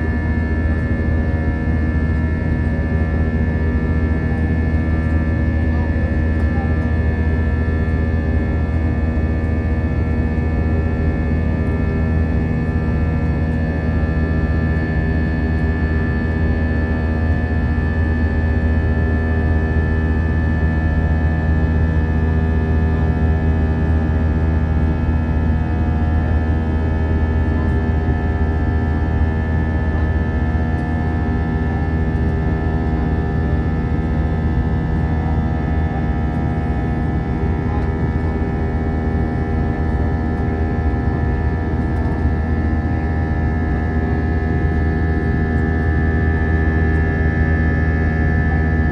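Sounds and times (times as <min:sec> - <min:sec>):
jet engine cabin drone: 0:00.0 - 0:48.9.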